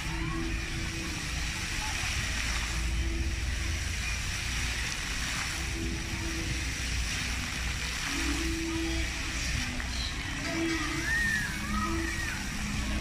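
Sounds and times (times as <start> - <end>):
fountain jets splashing on paving: 0.0 - 13.0.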